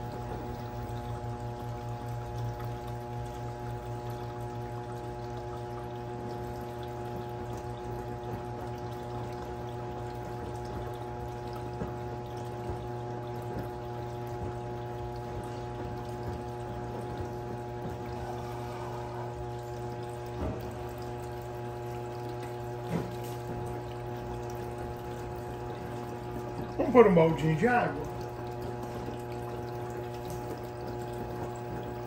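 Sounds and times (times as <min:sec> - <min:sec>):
washing machine hum: 0:00.0 - 0:32.0
water pouring inside washing machine: 0:00.0 - 0:32.0.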